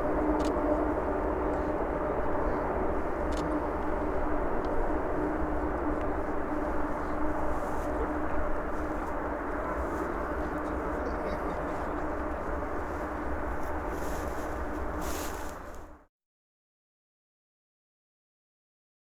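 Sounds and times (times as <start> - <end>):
jet engines running: 0.0 - 15.9.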